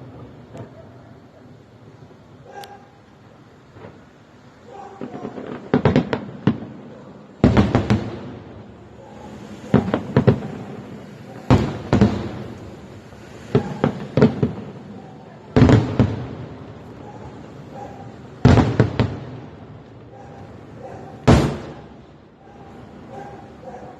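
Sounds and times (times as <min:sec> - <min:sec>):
fireworks bangs echoing: 0:03.7 - 0:23.9.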